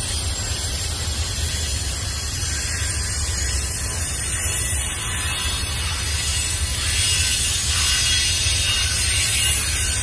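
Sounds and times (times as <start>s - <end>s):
freight train rumble: 0.0s - 10.0s
steel wheels hissing on rail: 0.0s - 10.0s.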